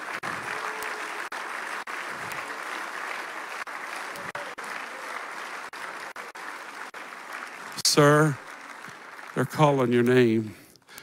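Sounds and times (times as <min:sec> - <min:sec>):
congregation applauding: 0:00.0 - 0:10.6.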